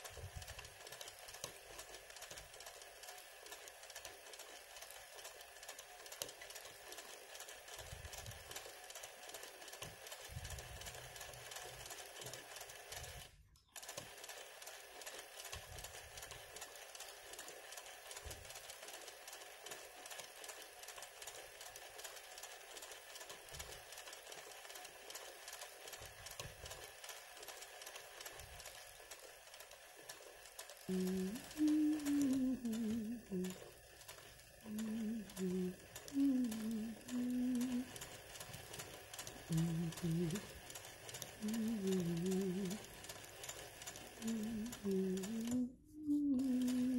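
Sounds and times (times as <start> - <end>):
sewing machine stitching: 0.0 - 46.9.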